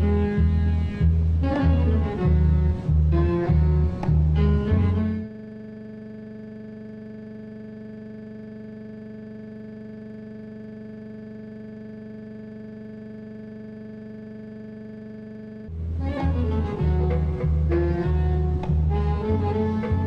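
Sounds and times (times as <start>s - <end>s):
steady pitched drone: 0.0s - 20.0s.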